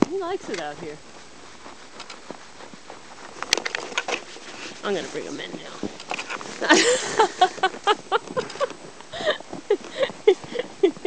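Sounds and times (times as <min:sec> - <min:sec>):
clothing rustle: 0:00.0 - 0:11.0
footsteps in snow: 0:00.0 - 0:11.0.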